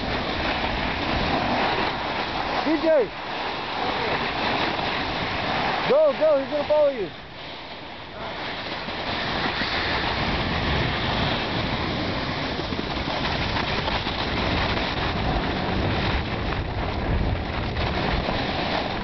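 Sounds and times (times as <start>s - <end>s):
sliding over packed snow: 0.0s - 19.0s
wind buffeting microphone: 0.0s - 19.0s.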